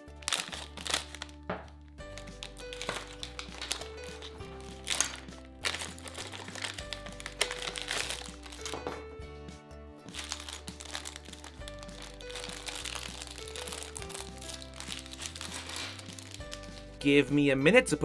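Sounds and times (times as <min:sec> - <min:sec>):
plastic bag crinkling: 0:00.0 - 0:09.0, 0:10.1 - 0:17.0
background music: 0:00.0 - 0:18.0.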